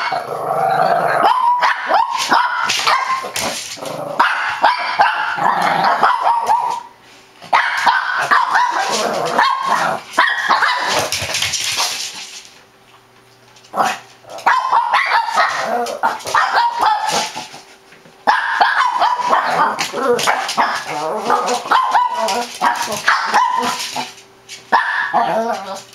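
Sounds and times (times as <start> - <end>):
small dogs barking: 1.1 - 3.6, 4.2 - 11.2, 13.8 - 17.6, 18.2 - 25.9.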